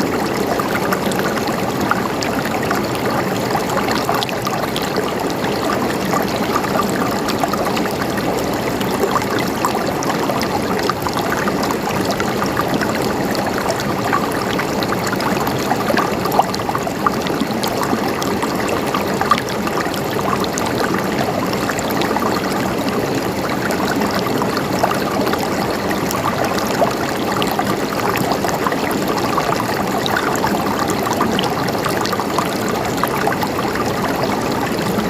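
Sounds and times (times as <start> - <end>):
river water flowing over rocks: 0.0 - 35.0.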